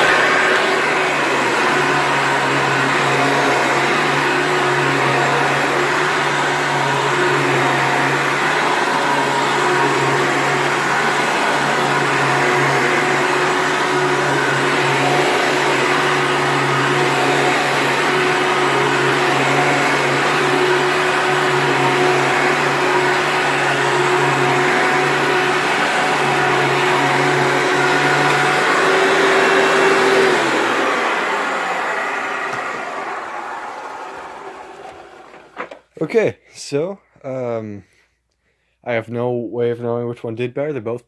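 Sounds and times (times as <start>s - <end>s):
vacuum cleaner motor whine: 0.0s - 35.8s
vacuum cleaner winding down: 0.0s - 35.8s.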